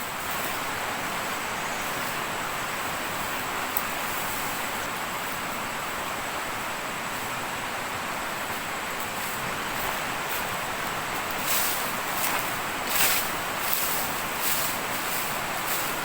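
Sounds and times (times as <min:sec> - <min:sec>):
running water hiss: 0:00.0 - 0:16.0.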